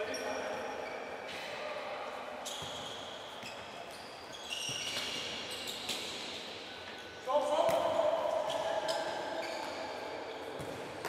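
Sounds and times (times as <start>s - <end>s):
shoes squeaking on court floor: 0.0s - 1.7s, 2.4s - 11.0s.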